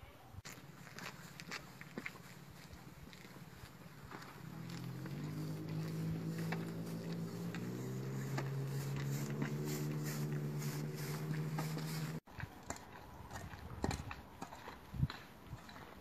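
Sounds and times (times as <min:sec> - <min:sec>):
footsteps on gravel: 0:00.4 - 0:15.9.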